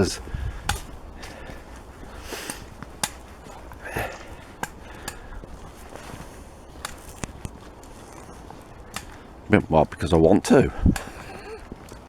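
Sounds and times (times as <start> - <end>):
footsteps on dry woodland path: 0.0 - 12.0
twigs snapping underfoot: 0.0 - 12.0.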